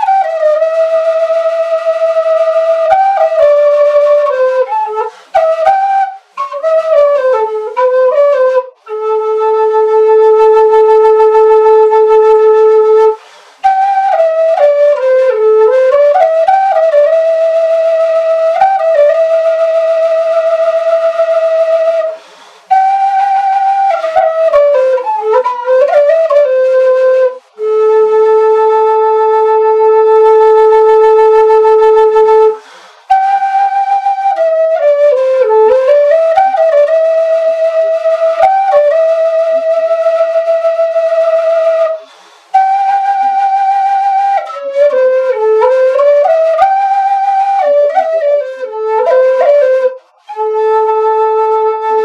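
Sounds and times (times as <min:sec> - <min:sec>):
wooden flute melody: 0:00.0 - 0:52.0.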